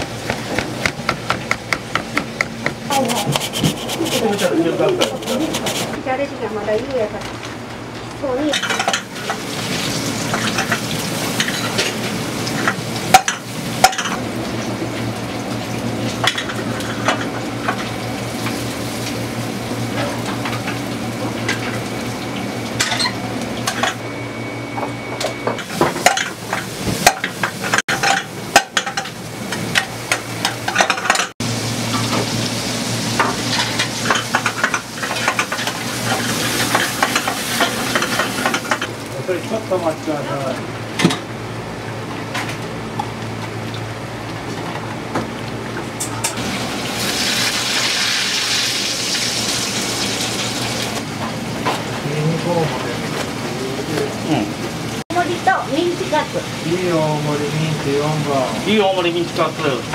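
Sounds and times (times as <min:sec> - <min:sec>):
food frying in a wok: 0:08.2 - 0:24.7, 0:25.5 - 0:40.3, 0:41.3 - 0:59.9
oil sizzling in deep fryer: 0:08.3 - 0:59.9.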